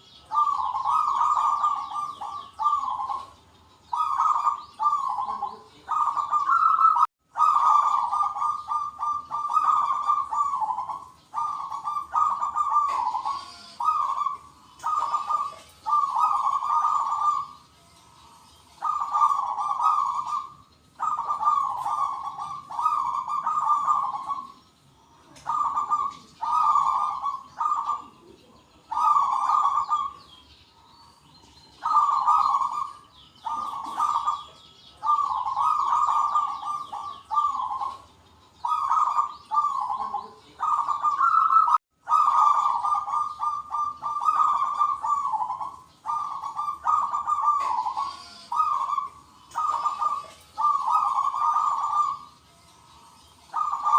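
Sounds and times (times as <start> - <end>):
doves cooing: 0.0 - 30.5, 31.1 - 53.9
small birds chirping: 0.0 - 53.9.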